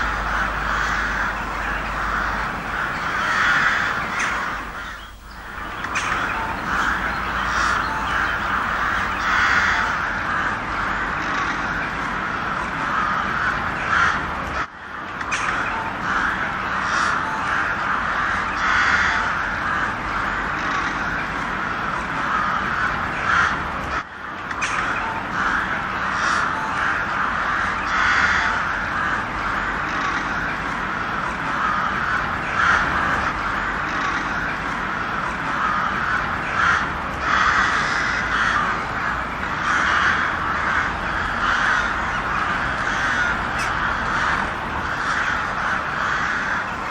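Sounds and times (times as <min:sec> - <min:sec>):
crows cawing: 0:00.0 - 0:46.9.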